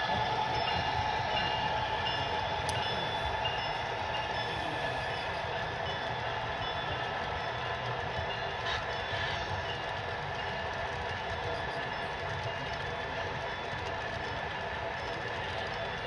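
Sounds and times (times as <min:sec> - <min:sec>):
model train wheels rumbling: 0:00.0 - 0:16.0.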